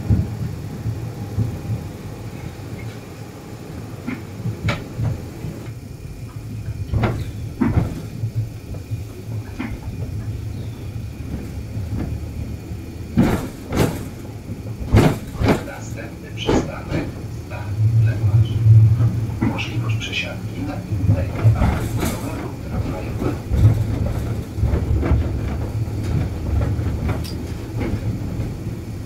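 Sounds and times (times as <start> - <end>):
tram rumble: 0.0 - 29.0
knocks and clunks: 4.0 - 29.0.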